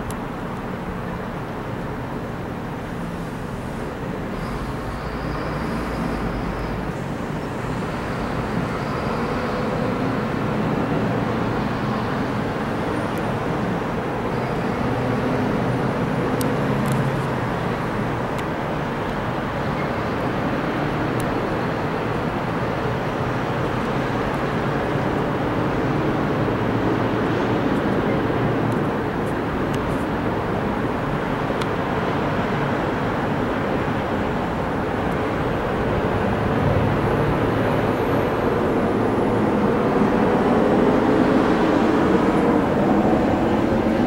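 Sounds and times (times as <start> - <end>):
rumble of distant engines: 0.0 - 44.0.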